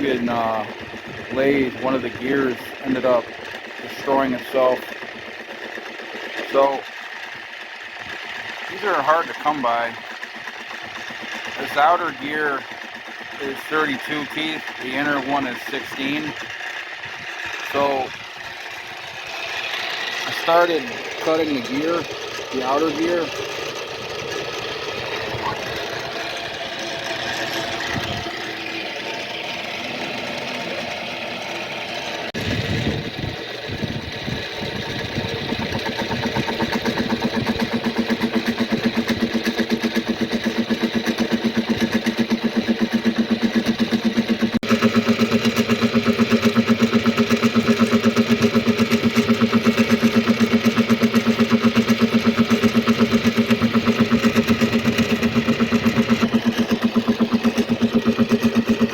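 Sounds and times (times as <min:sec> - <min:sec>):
gear cutting machine pulsing hum: 0:00.0 - 0:58.9.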